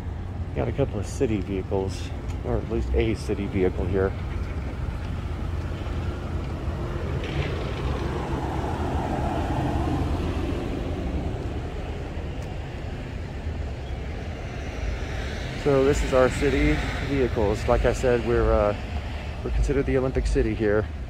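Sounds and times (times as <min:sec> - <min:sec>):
road vehicle passing: 0:00.0 - 0:21.0
steady low rumble: 0:00.0 - 0:21.0.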